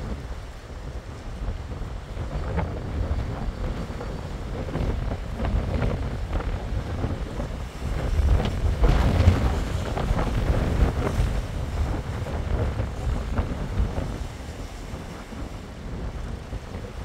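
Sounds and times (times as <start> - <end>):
choppy water rushing: 0.0 - 17.0
wind buffeting microphone: 0.0 - 17.0.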